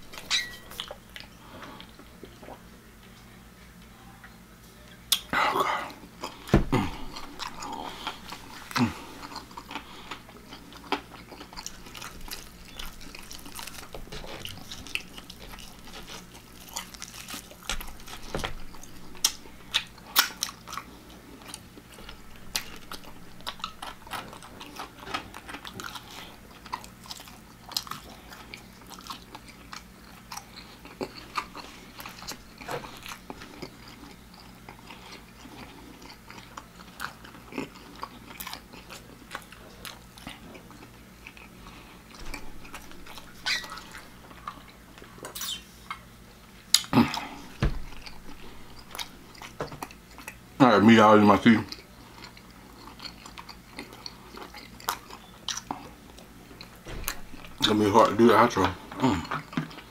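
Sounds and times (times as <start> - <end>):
person chewing crispy food: 0.0 - 2.7, 5.1 - 50.6, 51.4 - 59.9.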